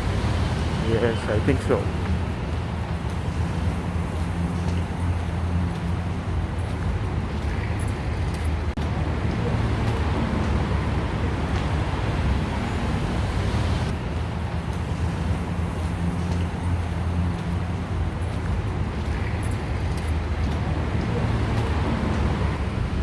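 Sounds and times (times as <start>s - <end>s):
city noise hiss: 0.0s - 23.0s
road traffic rumble: 0.0s - 23.0s.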